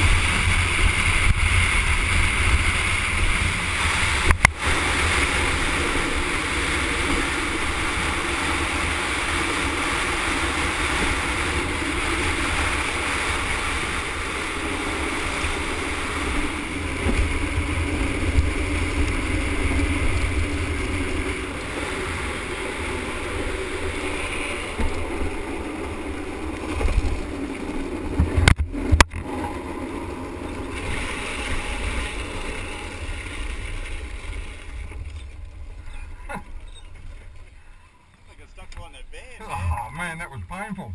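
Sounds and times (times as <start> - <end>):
wind rushing over microphone: 0.0 - 36.3
wheels rumbling on asphalt: 0.0 - 40.9.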